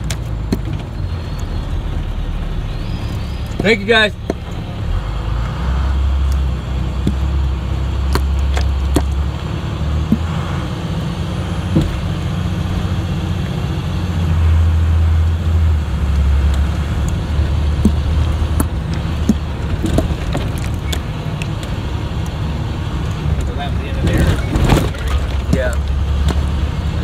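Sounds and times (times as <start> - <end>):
bus engine and road rumble: 0.0 - 27.0
knocks and rattles over bumps: 0.0 - 27.0.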